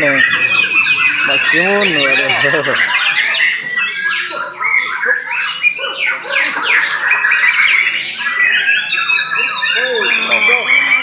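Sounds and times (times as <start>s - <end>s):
chorus of birds singing: 0.0s - 11.0s.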